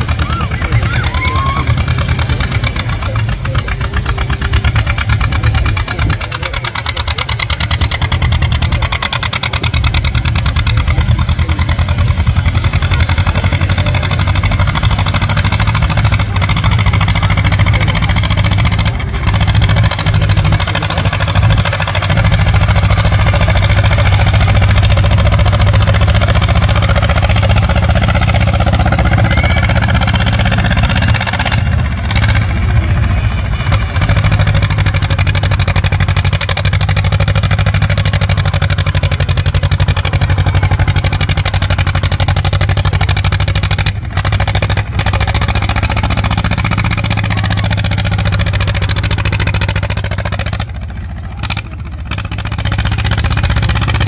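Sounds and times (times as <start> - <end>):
tractor engine chugging: 0.0 - 54.0.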